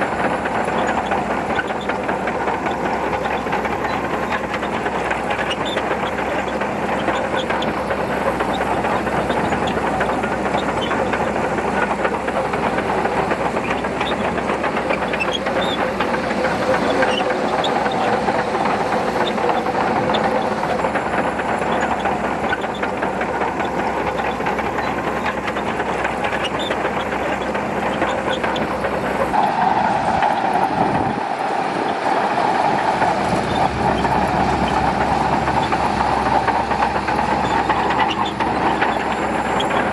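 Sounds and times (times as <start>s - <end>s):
bulldozer engine pushing sand: 0.0s - 39.9s.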